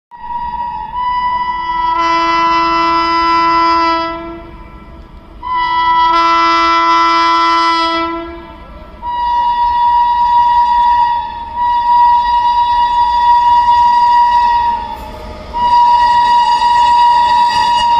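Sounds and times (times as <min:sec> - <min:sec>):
locomotive air horn blasts: 0:00.3 - 0:17.9.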